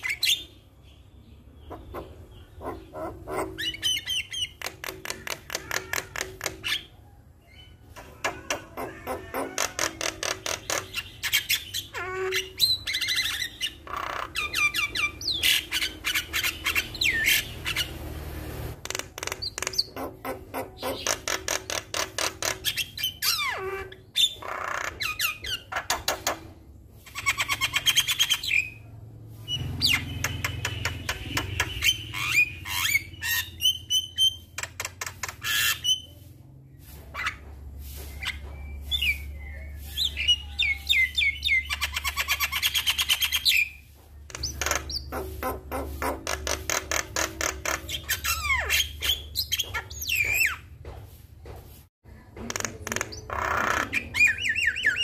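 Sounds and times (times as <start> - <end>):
myna bird singing: 0.0 - 18.2, 18.9 - 50.8, 52.8 - 55.0.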